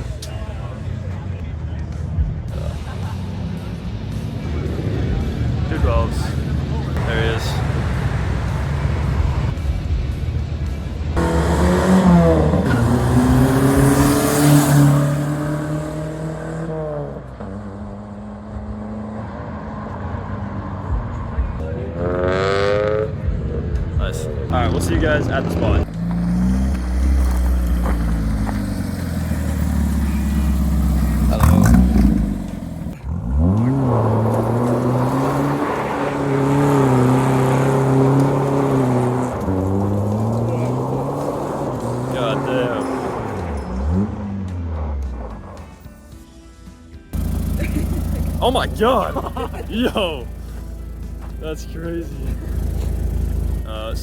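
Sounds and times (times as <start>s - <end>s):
car engine passing by: 0.0s - 46.3s, 47.1s - 54.0s.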